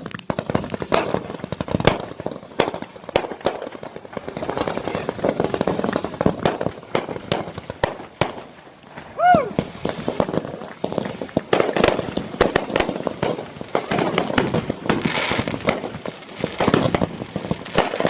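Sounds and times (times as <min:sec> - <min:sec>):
fireworks cracking and popping: 0:00.0 - 0:18.0
fireworks crackling: 0:00.0 - 0:18.0.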